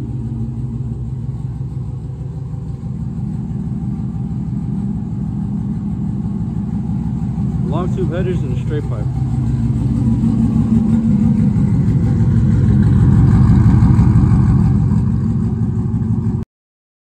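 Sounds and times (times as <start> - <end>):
loud engine exhaust idling: 0.0 - 16.4.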